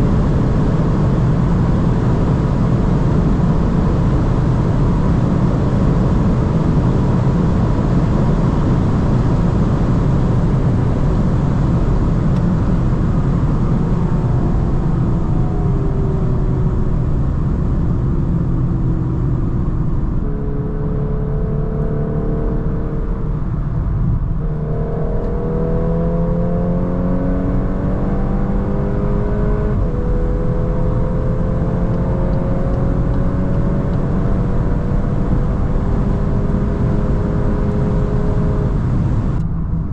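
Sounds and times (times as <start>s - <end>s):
car engine accelerating: 0.0s - 39.9s
wind and tyre noise: 0.0s - 39.9s.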